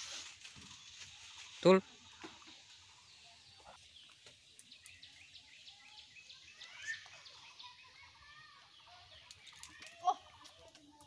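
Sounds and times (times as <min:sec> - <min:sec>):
faint bird chirps: 0:00.6 - 0:11.0.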